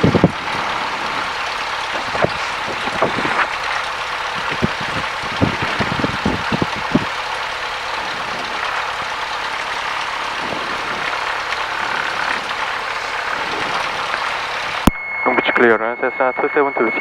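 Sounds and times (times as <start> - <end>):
piston engine idling drone: 0.0 - 16.7.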